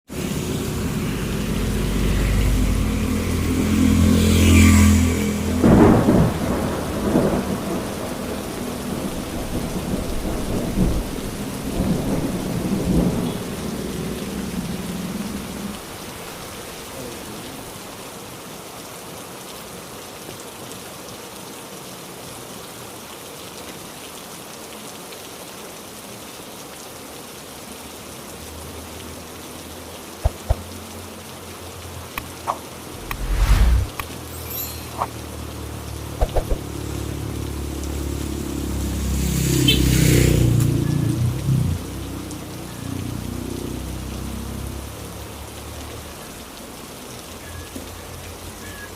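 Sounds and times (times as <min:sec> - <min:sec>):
heavy rain: 0:00.1 - 0:48.9.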